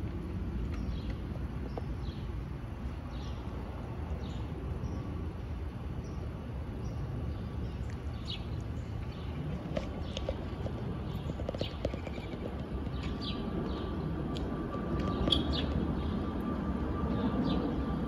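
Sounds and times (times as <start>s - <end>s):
distant jet rumble: 0.0s - 18.0s
small birds chirping: 0.2s - 16.4s.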